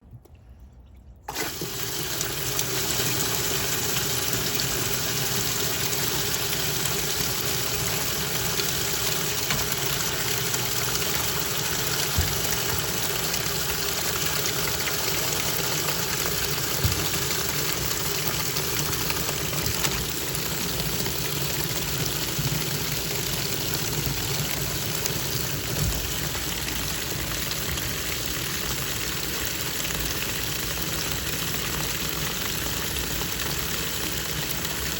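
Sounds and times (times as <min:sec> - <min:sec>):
low motor hum: 0:00.0 - 0:30.4
rush of water in washing machine: 0:01.3 - 0:34.9.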